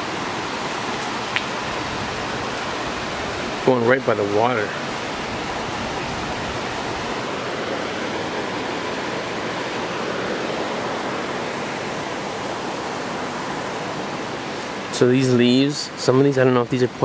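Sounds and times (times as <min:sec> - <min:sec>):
creek water rushing over cascade: 0:00.0 - 0:17.0.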